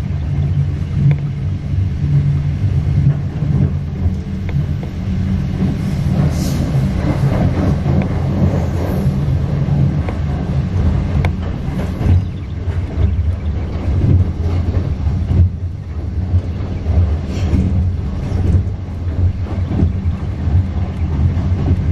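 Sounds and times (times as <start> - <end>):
track clicks and knocks: 0.0 - 21.9
train wheels rumbling on rail: 0.0 - 21.9.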